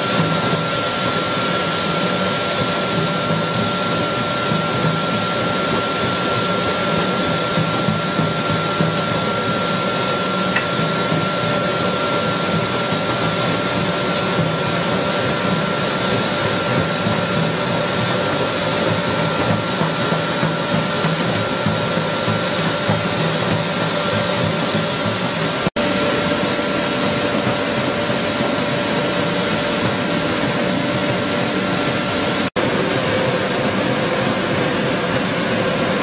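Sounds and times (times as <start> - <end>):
flour mill machine whirring: 0.0 - 36.0.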